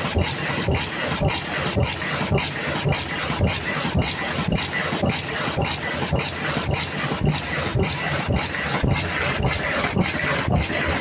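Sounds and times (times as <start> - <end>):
machine hissing and clattering: 0.0 - 11.0.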